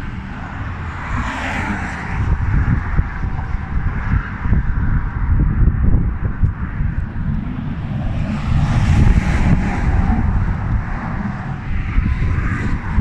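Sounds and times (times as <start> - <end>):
truck passing: 0.0 - 13.0
wind buffeting microphone: 0.0 - 13.0.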